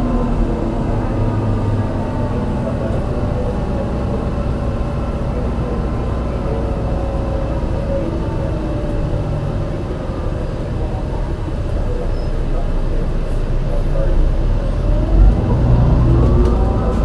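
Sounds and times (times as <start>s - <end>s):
bus engine rumbling with misfire: 0.0s - 17.0s.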